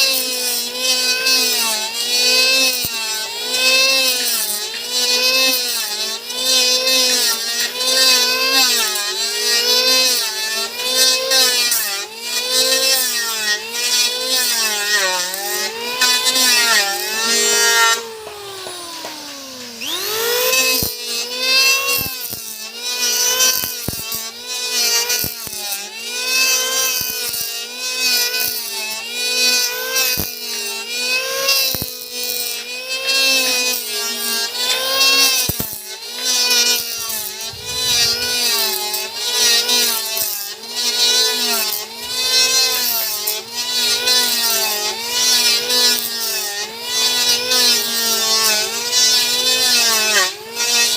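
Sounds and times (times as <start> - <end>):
electric hand planer cutting wood: 0.0 - 50.9.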